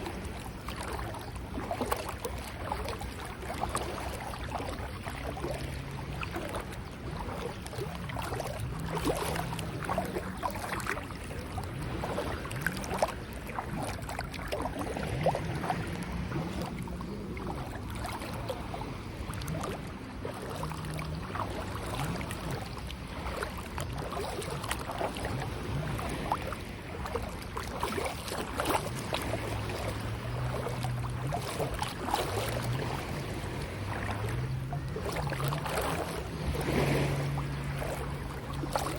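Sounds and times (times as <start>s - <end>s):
sea water sloshing and splashing: 0.0s - 38.9s
wind on microphone: 0.0s - 38.9s.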